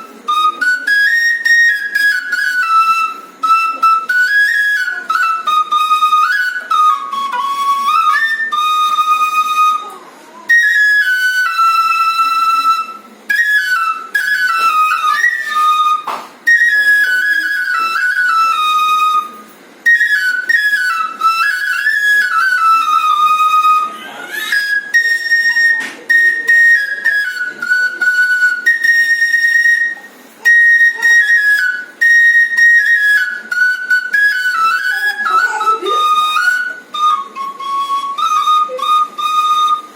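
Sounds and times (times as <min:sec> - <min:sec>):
bamboo flute melody: 0:00.0 - 0:39.9.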